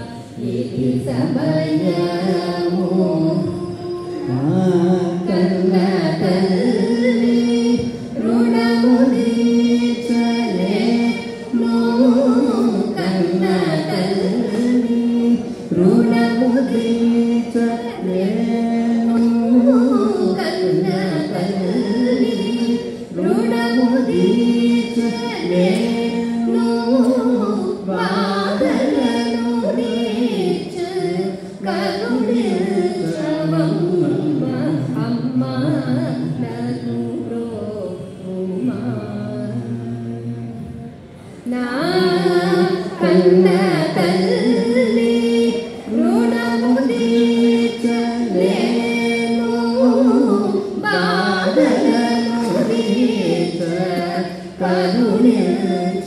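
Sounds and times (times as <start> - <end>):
man and woman singing devotional song: 0.0 - 56.0.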